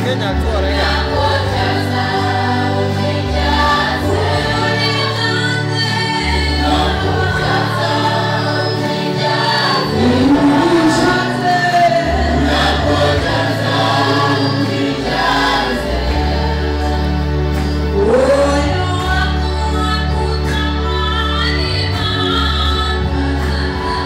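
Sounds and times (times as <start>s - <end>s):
choir singing gospel: 0.0s - 24.0s
sustained bass notes: 3.3s - 24.0s.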